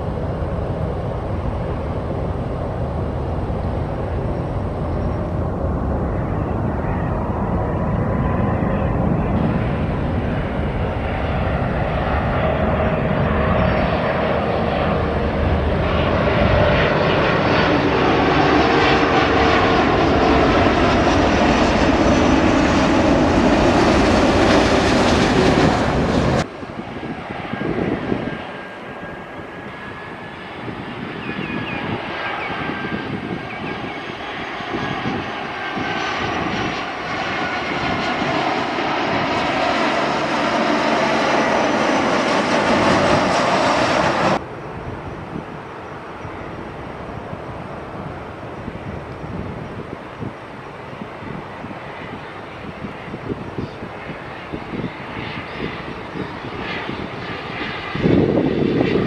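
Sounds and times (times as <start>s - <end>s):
approaching jet engine whine: 0.0s - 59.0s
jet airliner roar: 0.0s - 59.0s.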